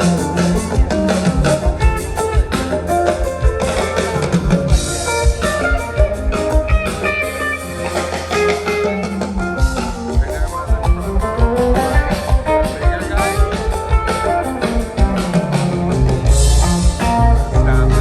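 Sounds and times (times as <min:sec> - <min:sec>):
rock band jamming: 0:00.0 - 0:18.0.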